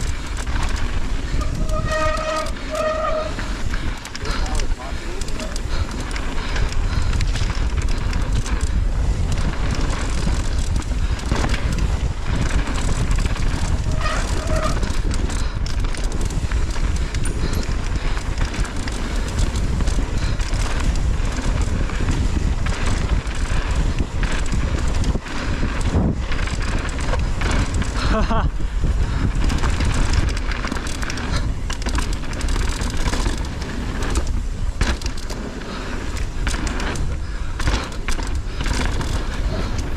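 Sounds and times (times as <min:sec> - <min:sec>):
bike knocking and rattling: 0:00.0 - 0:39.9
tyres rolling over dirt: 0:00.0 - 0:39.9
wind buffeting microphone: 0:00.0 - 0:39.9.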